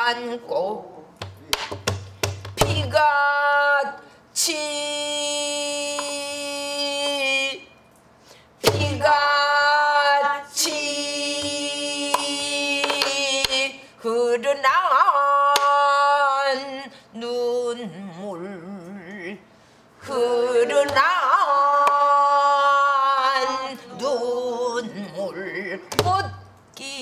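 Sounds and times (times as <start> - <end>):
woman singing with vibrato: 0.0 - 1.2, 2.6 - 7.8, 8.6 - 27.0.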